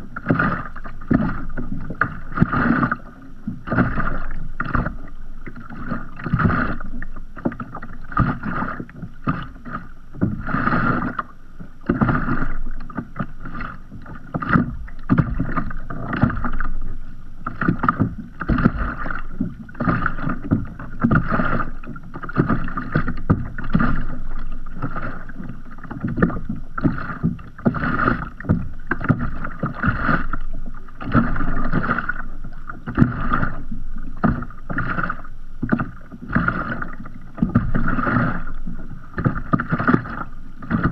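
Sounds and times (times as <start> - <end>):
waves lapping against kayak hull: 0.0 - 40.9.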